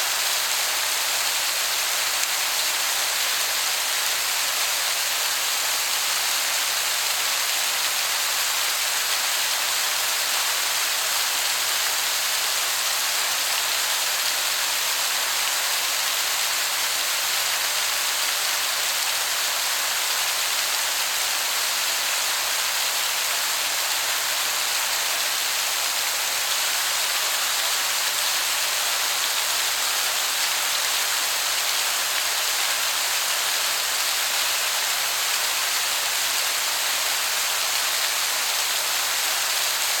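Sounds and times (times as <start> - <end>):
distant waterfall rushing: 0.0 - 40.0.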